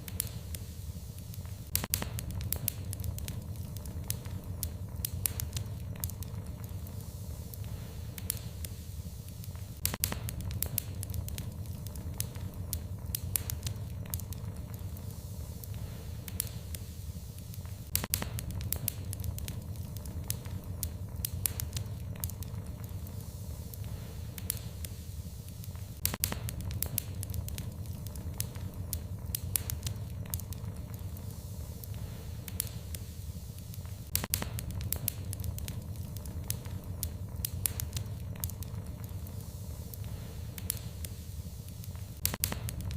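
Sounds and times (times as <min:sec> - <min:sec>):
fire pops and snaps: 0:00.0 - 0:42.9
wood fire crackling: 0:00.0 - 0:42.9.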